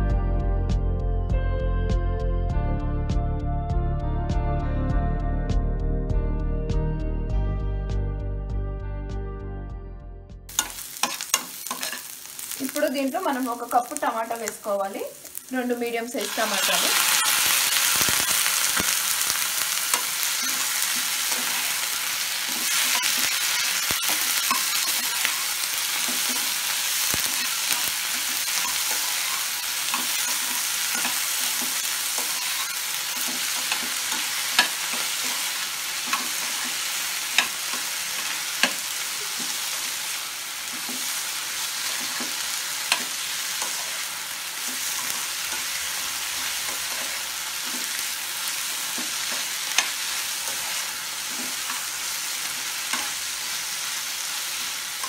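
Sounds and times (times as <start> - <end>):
vegetables sizzling in oil: 10.5 - 55.0.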